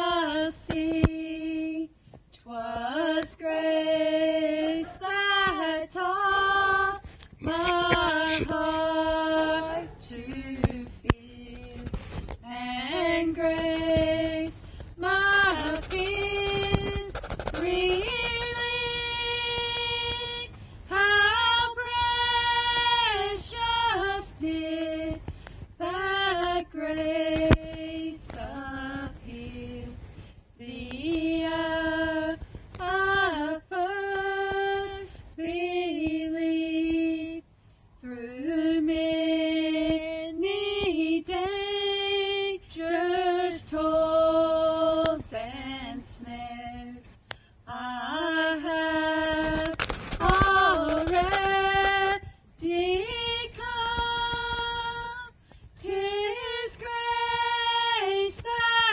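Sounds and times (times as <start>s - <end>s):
girl singing a slow hymn: 0.0s - 58.9s.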